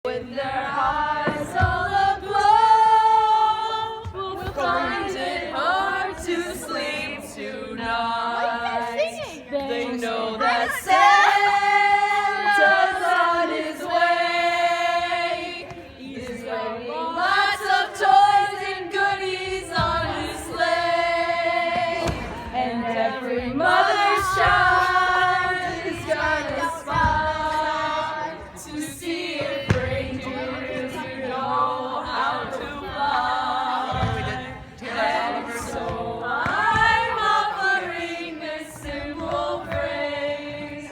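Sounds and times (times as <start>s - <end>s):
group singing unaccompanied: 0.0s - 40.9s.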